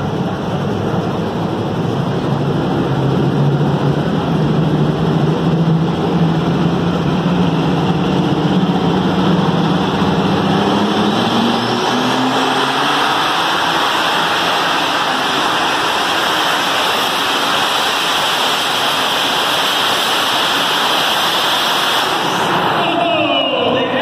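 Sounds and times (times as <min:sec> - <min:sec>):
tractor engine at full throttle: 0:00.0 - 0:23.0.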